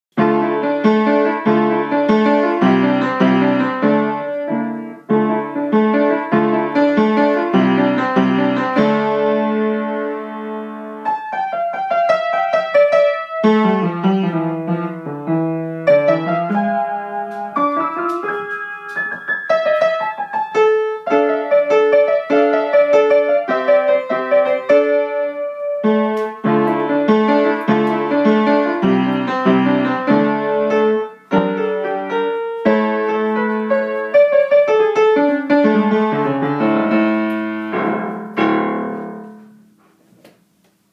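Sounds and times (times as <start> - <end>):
lively solo piano: 0.1 - 40.9.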